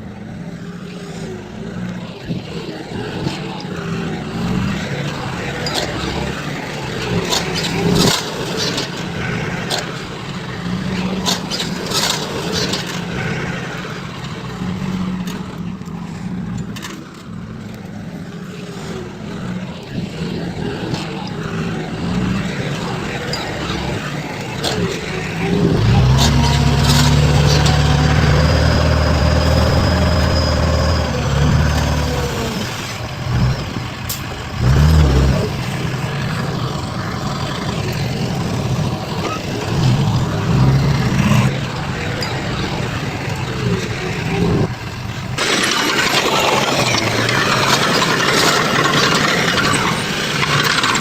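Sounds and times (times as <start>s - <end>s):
heavy diesel engines: 0.0s - 51.0s.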